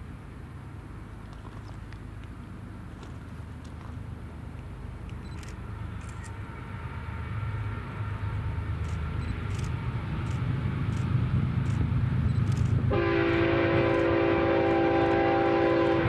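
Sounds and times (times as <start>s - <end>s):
diesel locomotive engines rumbling: 0.0s - 16.0s.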